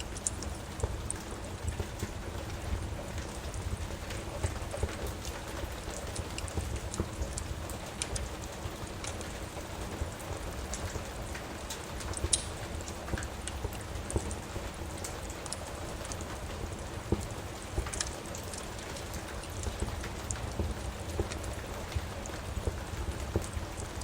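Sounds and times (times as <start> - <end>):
steady rain: 0.0 - 24.0
wood fire popping and crackling: 0.0 - 24.0.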